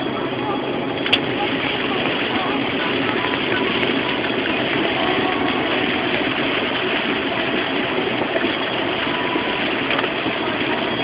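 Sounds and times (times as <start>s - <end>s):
car engine: 0.0s - 11.0s
rain and wet road noise: 1.0s - 11.0s.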